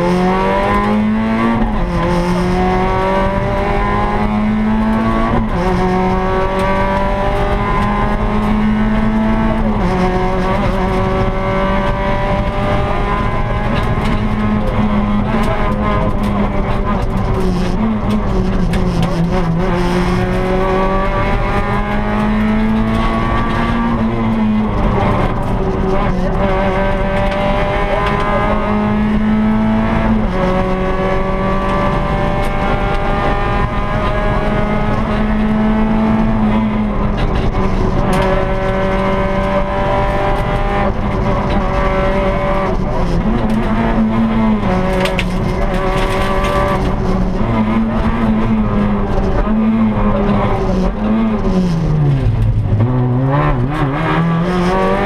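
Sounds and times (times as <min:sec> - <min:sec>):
rally car engine accelerating: 0:00.0 - 0:55.0.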